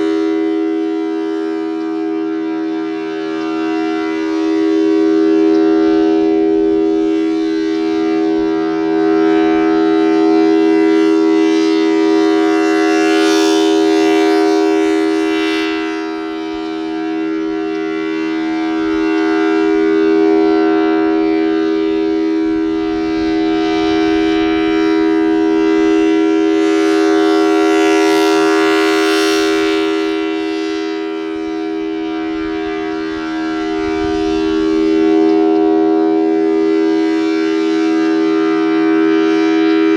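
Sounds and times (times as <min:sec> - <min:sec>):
warning siren dual-tone wail: 0:00.0 - 0:39.9.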